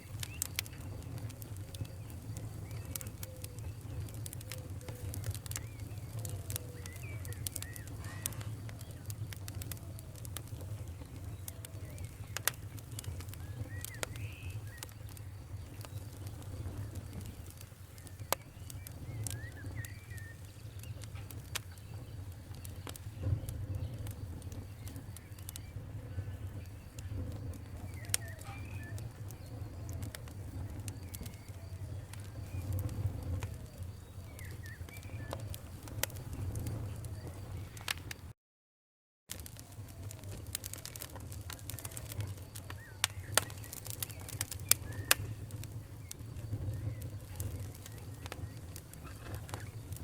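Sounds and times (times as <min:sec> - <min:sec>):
wood fire crackling: 0:00.0 - 0:38.4, 0:39.3 - 0:50.0.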